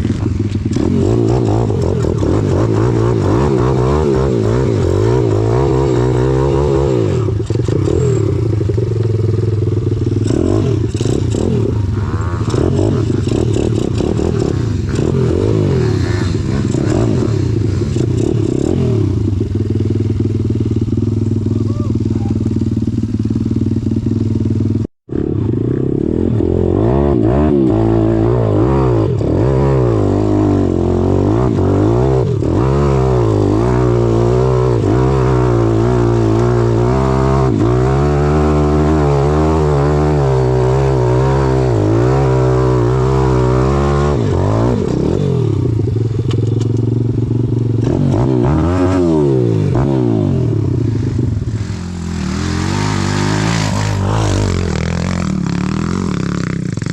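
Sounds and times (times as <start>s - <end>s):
pit bike engine revving: 0.0s - 56.9s.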